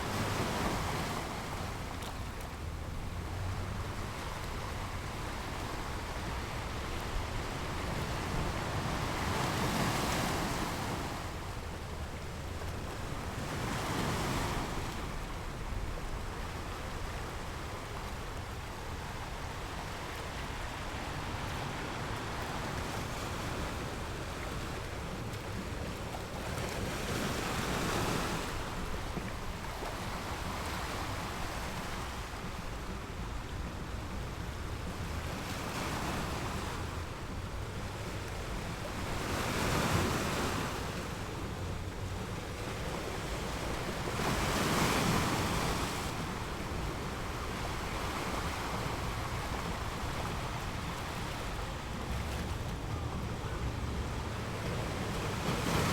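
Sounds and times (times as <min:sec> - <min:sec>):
waves breaking on beach: 0:00.0 - 0:55.9
wind rumble on microphone: 0:00.0 - 0:55.9.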